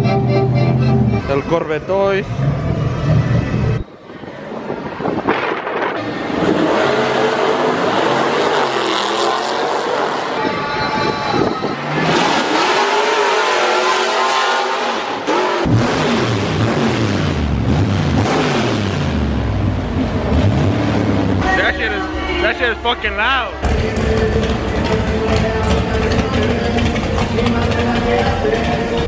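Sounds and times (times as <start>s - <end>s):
deep loud engine rumble: 0.0s - 14.3s, 15.0s - 29.0s
trucks racing at full throttle: 0.0s - 29.0s.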